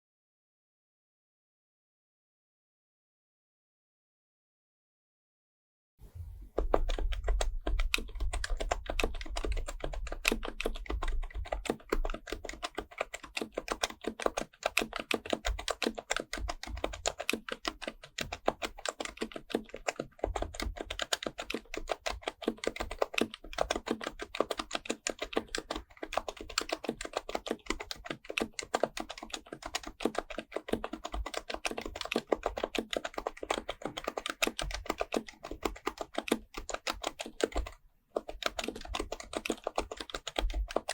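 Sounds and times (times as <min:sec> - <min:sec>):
fast keyboard typing: 0:06.4 - 0:40.9.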